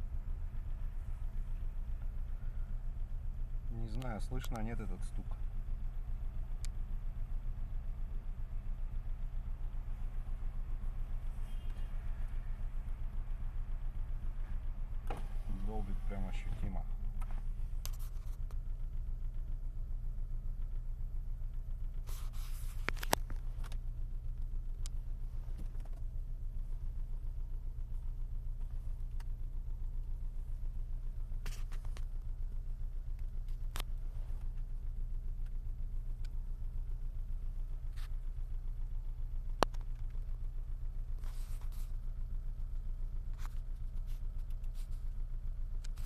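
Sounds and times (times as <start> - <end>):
car engine idling with knock: 0.0 - 46.0.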